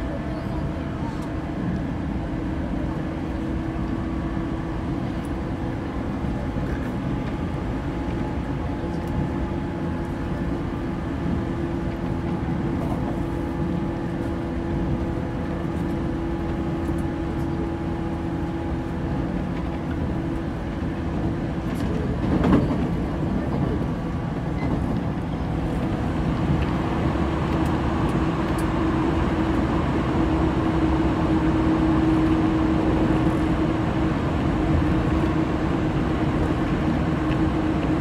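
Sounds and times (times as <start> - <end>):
train wheels on rails: 0.0 - 38.0.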